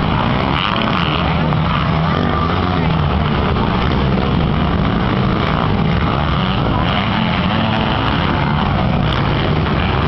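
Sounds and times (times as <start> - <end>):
dirt bike engines running: 0.0 - 10.0.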